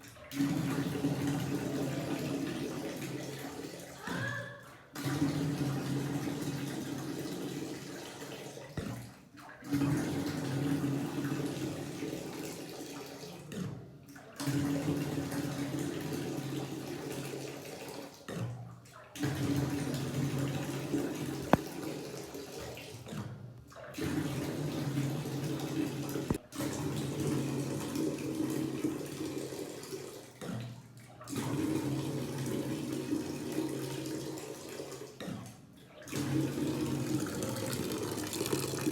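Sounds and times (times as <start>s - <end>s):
water rushing from drain: 0.0s - 38.9s.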